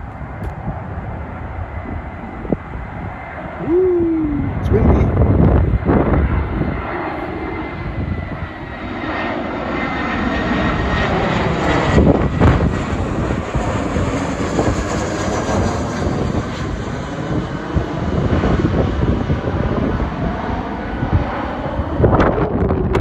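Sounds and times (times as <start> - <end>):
aircraft engines rushing: 0.0 - 23.0.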